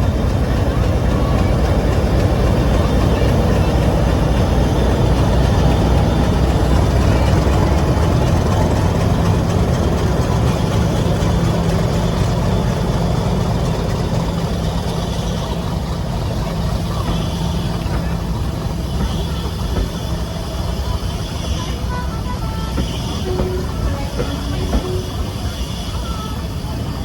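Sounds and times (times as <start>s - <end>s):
diesel locomotive engine humming: 0.0s - 27.0s.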